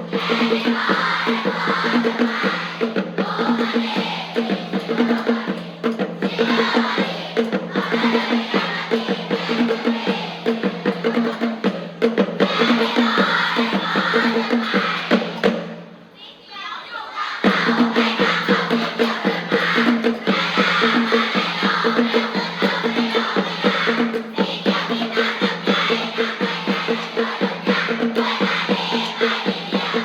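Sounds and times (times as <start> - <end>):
upbeat music with fast drum beat: 0.0 - 15.9, 17.4 - 30.0.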